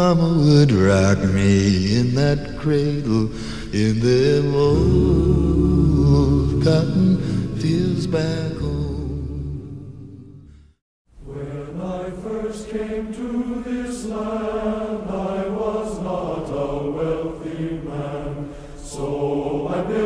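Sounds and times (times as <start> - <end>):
folk singing: 0.0 - 10.2, 11.2 - 20.0.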